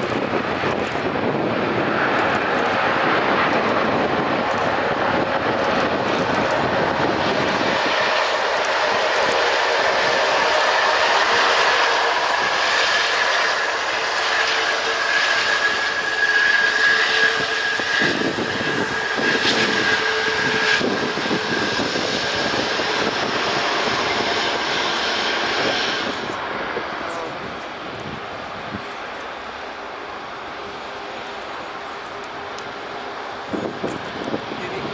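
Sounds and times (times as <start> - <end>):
jet engines roaring with whine: 0.0 - 34.9.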